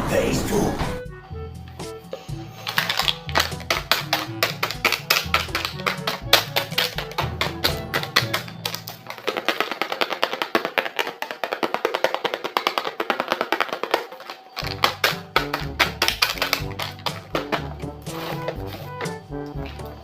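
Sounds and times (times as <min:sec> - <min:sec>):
music with fast percussive beat: 0:01.1 - 0:13.7, 0:14.6 - 0:20.0.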